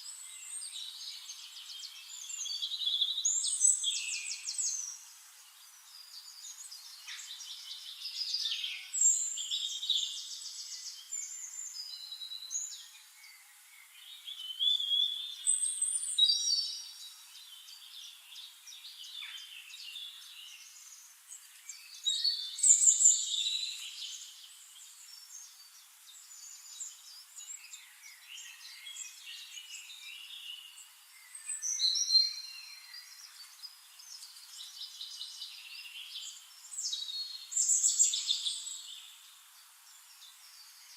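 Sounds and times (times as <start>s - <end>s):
forest birds singing: 0.0s - 40.9s.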